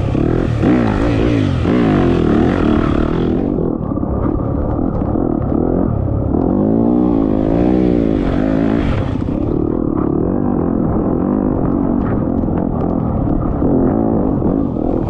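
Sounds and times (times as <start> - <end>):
engine revving under load: 0.0 - 3.8, 4.8 - 15.0.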